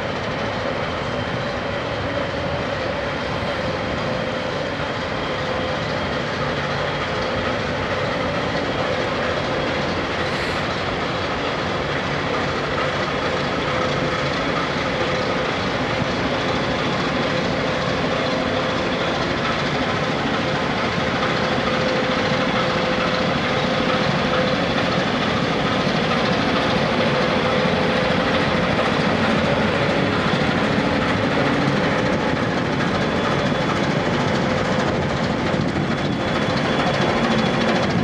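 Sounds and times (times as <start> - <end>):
ship diesel engine drone: 0.0 - 38.0.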